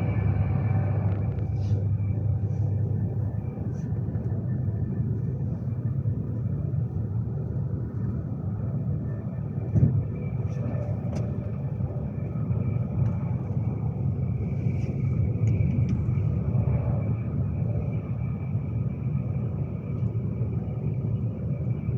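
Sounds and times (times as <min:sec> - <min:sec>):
faint high hum: 0:00.0 - 0:21.9
train interior rumble: 0:00.0 - 0:21.9.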